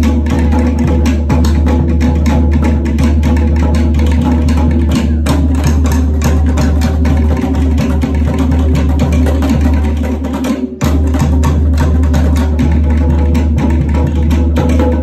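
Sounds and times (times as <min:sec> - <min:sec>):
large skin drum: 0:00.0 - 0:15.0
wooden slit drums: 0:00.0 - 0:15.0.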